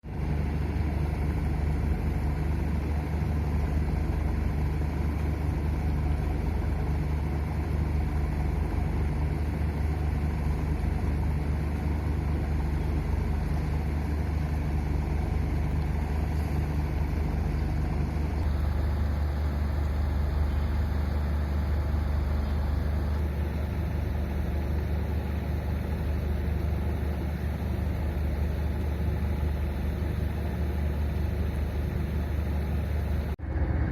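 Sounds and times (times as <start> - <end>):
boat engines droning: 0.0 - 33.9
higher engine hum: 0.0 - 33.9.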